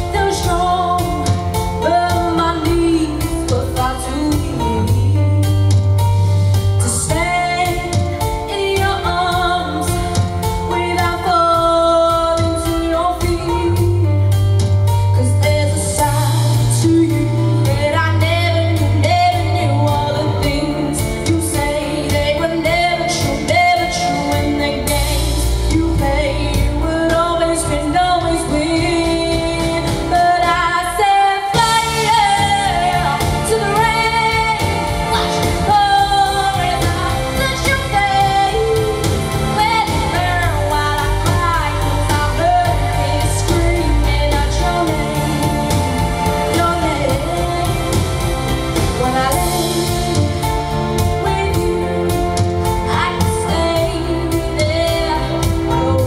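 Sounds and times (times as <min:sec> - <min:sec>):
instrumental accompaniment with bass: 0:00.0 - 0:56.0
woman singing pop ballad: 0:00.0 - 0:56.0.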